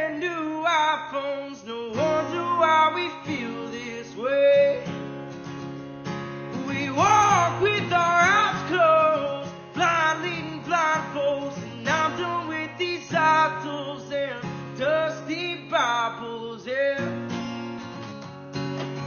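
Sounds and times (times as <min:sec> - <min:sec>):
person singing: 0:00.0 - 0:04.9, 0:06.6 - 0:17.2
acoustic guitar: 0:00.0 - 0:19.0.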